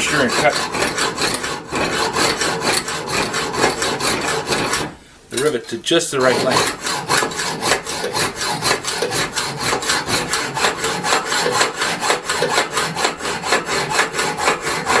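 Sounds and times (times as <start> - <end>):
hand saw cutting metal: 0.0 - 15.0.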